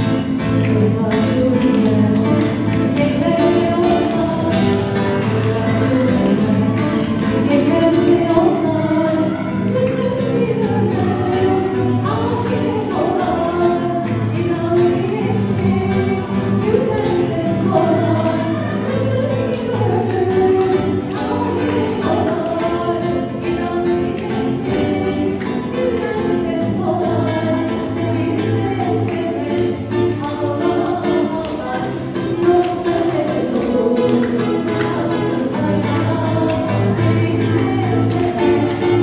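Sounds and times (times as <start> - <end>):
song with singing voices: 0.0 - 39.0.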